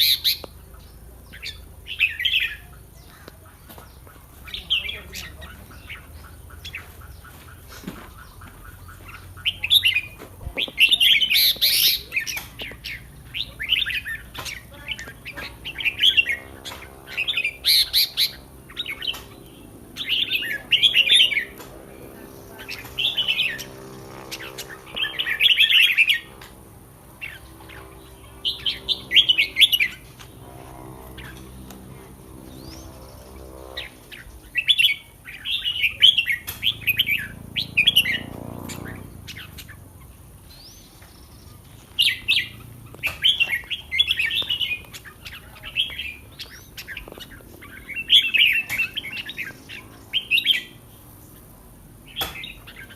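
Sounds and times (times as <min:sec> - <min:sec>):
bulbul singing warbled phrases: 0:00.0 - 0:52.9.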